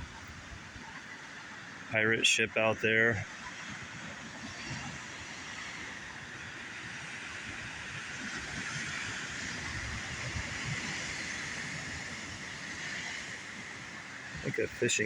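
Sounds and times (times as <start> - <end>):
wind rumble on microphone: 0.0 - 1.1, 3.2 - 15.0
distant surf: 0.0 - 15.0
wind hiss: 1.9 - 15.0.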